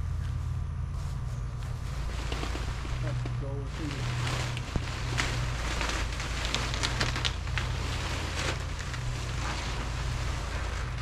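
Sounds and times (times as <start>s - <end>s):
plastic tarp crackling: 1.8s - 11.0s.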